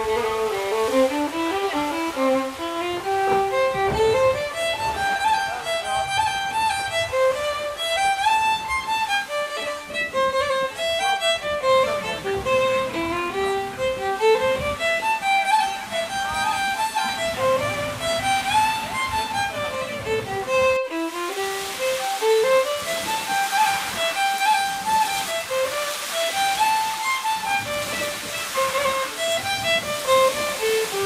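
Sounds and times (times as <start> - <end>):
lively fiddle tune: 0.0 - 31.0.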